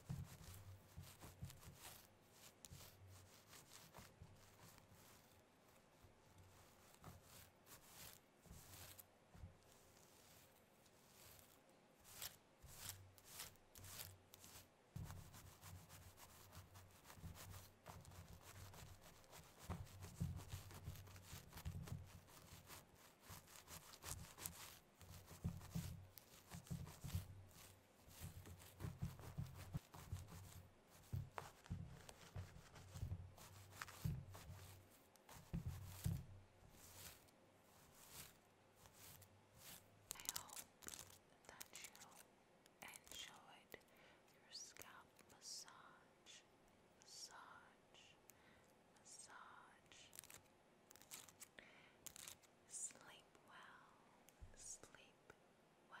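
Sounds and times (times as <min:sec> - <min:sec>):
nails scratching through hair: 0:00.0 - 0:43.8, 0:44.5 - 0:45.9, 0:49.0 - 0:53.2.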